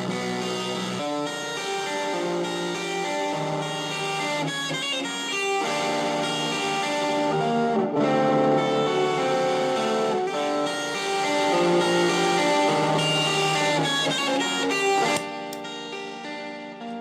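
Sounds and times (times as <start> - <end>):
distorted electric guitar chords: 0.0 - 13.9.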